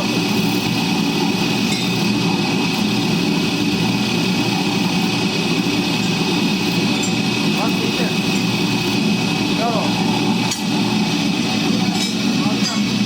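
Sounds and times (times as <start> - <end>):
motor rumbling: 0.0 - 13.0.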